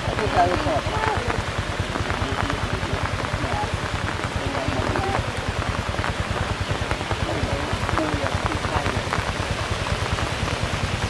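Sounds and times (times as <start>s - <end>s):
faint voices: 0.0s - 10.4s
rain falling: 0.0s - 11.0s
raindrops hitting microphone: 0.0s - 11.0s.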